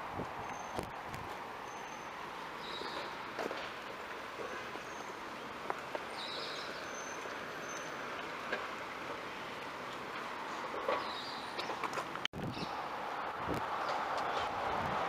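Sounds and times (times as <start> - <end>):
distant traffic hiss: 0.0 - 15.0.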